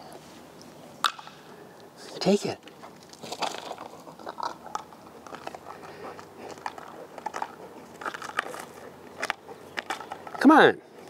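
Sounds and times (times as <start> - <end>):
teeth and plastic clicking on pavement: 0.6 - 1.9, 2.6 - 11.0.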